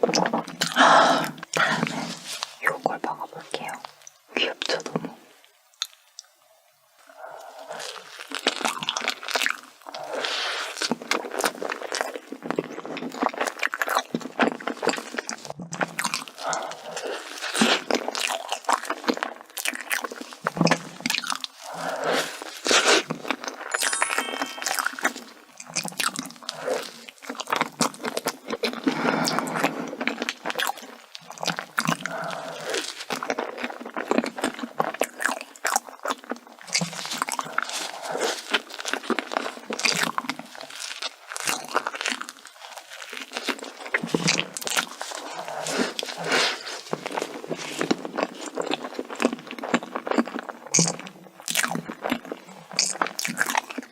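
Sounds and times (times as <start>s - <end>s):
person chewing crunchy food: 0.0s - 2.8s, 5.7s - 6.3s, 7.0s - 53.9s.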